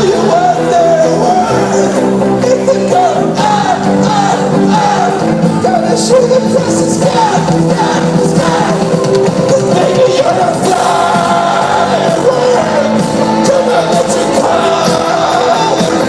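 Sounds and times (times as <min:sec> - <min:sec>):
lead vocal singing: 0:00.0 - 0:16.0
live band playing pop: 0:00.0 - 0:16.0.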